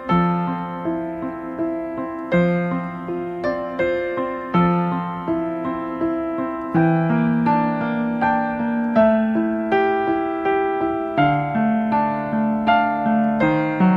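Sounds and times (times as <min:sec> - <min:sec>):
electric piano chords: 0:00.0 - 0:13.9.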